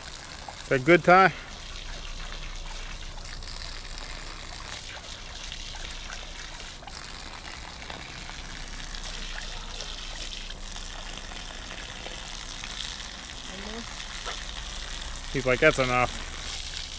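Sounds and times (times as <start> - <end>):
dog drinking: 0.0 - 16.9
water splashing onto grass: 0.0 - 16.9.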